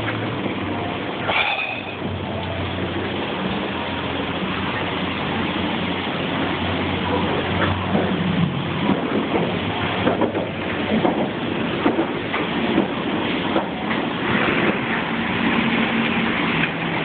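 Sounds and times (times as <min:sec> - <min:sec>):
water spraying and splashing: 0:00.0 - 0:17.0.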